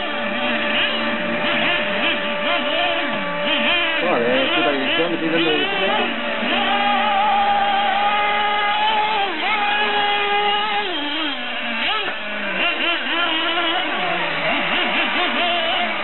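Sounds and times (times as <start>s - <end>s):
model car engines whining: 0.0s - 16.0s.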